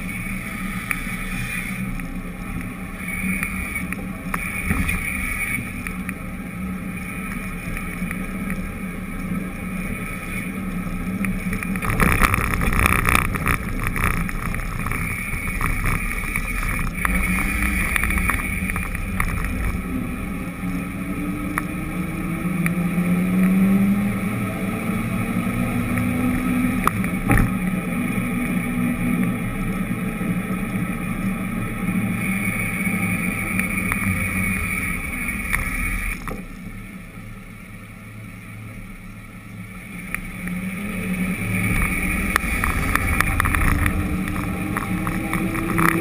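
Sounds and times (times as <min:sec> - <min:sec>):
muffled vehicle engine hum: 0:00.0 - 0:46.0
road noise: 0:00.0 - 0:46.0.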